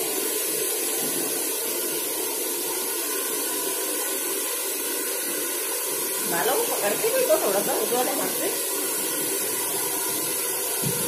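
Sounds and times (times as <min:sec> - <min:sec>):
hair dryer blowing air: 0:00.0 - 0:11.0.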